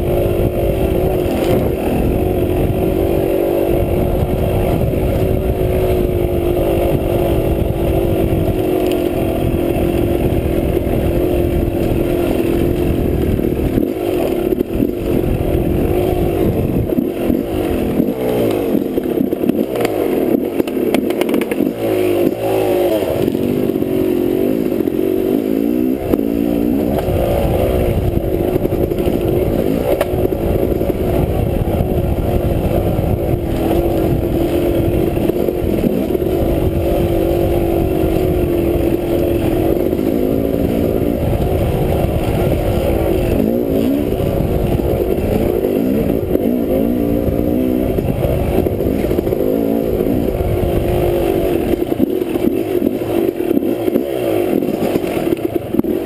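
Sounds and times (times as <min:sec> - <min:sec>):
dirt bike engine: 0:00.0 - 0:56.0.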